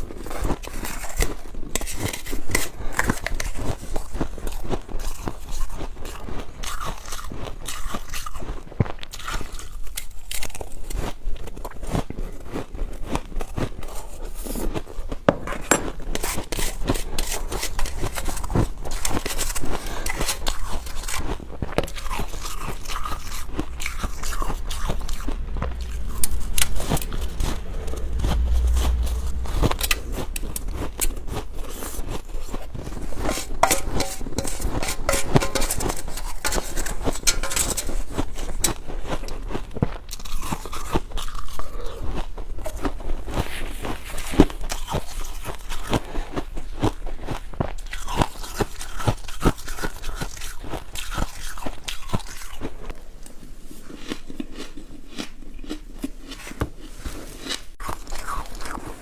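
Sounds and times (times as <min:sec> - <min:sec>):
ice being chewed: 0:00.0 - 0:29.2, 0:29.8 - 0:59.0.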